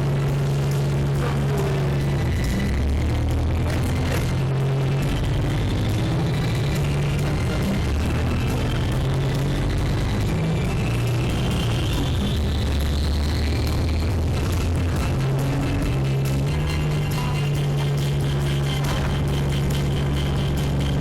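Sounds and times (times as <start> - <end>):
music with prominent bass line: 0.0 - 21.0.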